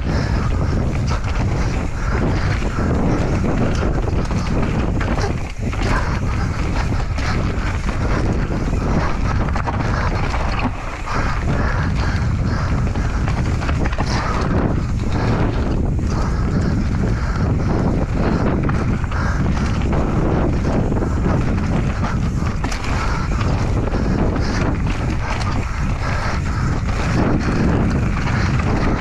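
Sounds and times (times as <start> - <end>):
bike clattering over rough ground: 0.0 - 29.0
tyres on dirt: 0.0 - 29.0
wind rushing over microphone: 0.0 - 29.0.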